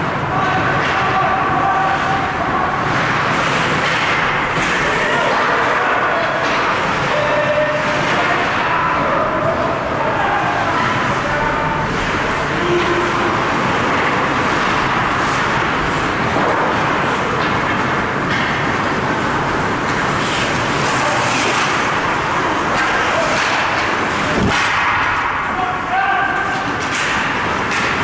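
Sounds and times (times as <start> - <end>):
ice hockey game noise: 0.0 - 28.0.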